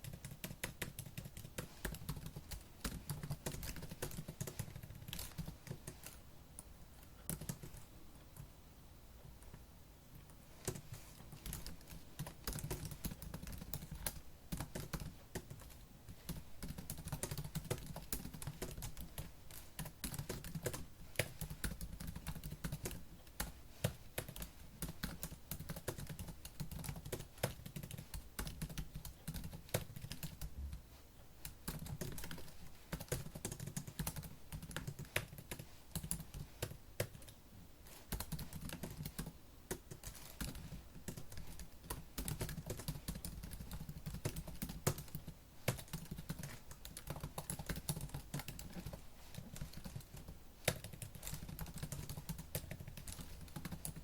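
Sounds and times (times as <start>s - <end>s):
laptop keyboard typing: 0.0s - 8.5s, 10.2s - 30.5s, 31.4s - 54.0s.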